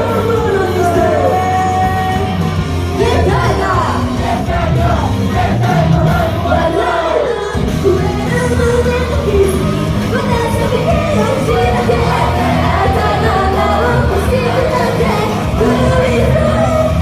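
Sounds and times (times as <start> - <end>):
person singing: 0.0 - 4.2, 4.8 - 17.0
fans shouting along: 0.0 - 17.0
pop backing track with beat: 0.0 - 17.0.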